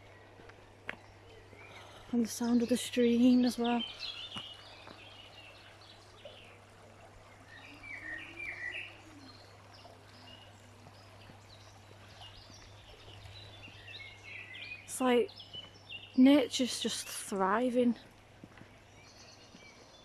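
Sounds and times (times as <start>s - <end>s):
songbirds chirping and singing: 0.0s - 18.0s, 18.6s - 20.0s
small stream rushing: 0.0s - 20.0s.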